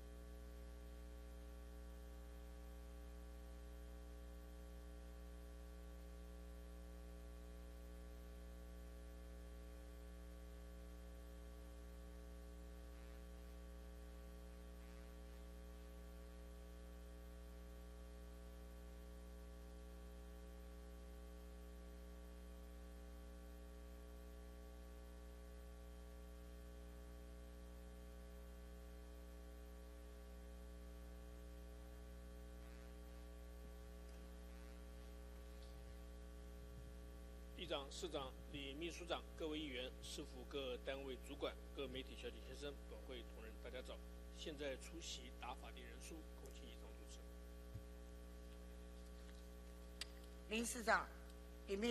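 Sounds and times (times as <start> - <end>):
faint steady tones: 0.0 - 25.0, 26.0 - 51.9
electrical mains hum: 0.0 - 51.9.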